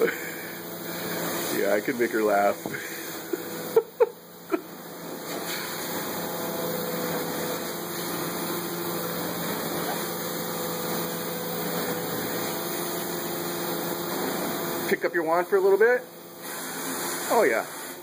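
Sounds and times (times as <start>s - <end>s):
carpet cleaning vacuum running: 0.0s - 18.0s.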